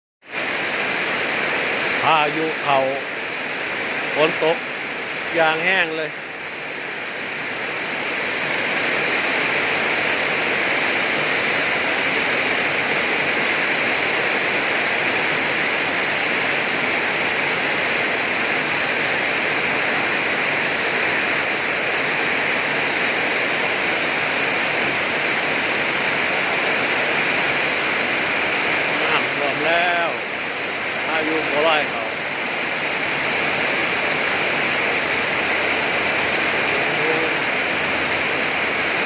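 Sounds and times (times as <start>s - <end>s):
heavy rain pouring: 0.2s - 39.0s.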